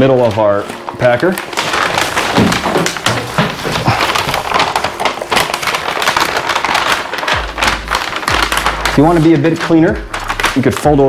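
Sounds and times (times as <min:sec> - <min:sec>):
plastic sheeting crinkling: 0:00.0 - 0:11.0.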